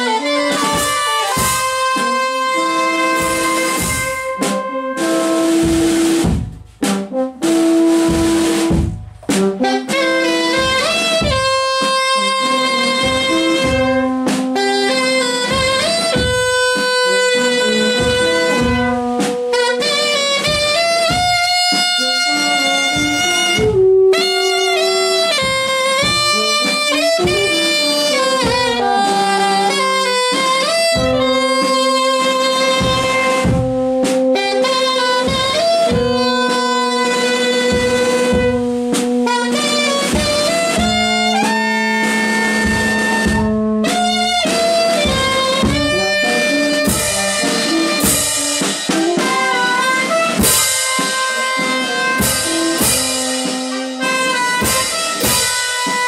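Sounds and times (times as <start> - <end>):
bass drum and snare drum: 0.0 - 56.0
brass band playing: 0.0 - 56.0.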